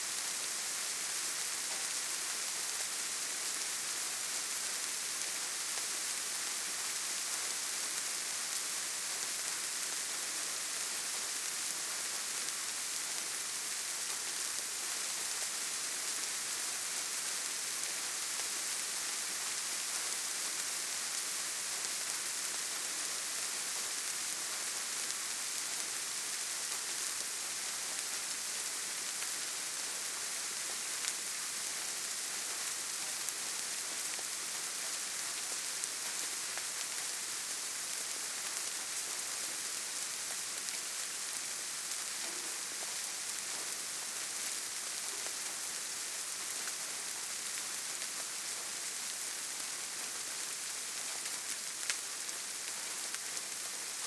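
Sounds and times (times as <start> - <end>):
rain falling in a forest: 0.0 - 54.0.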